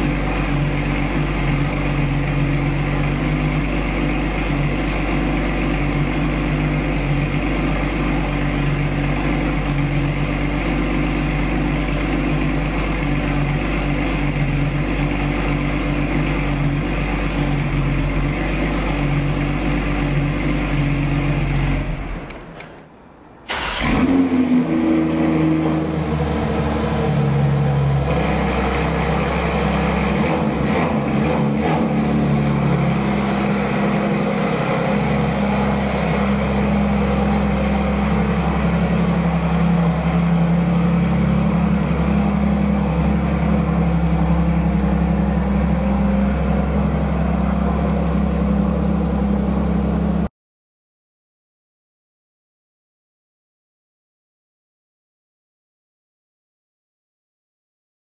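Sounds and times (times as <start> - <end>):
sports car engine idling: 0.0 - 22.3, 23.5 - 50.3.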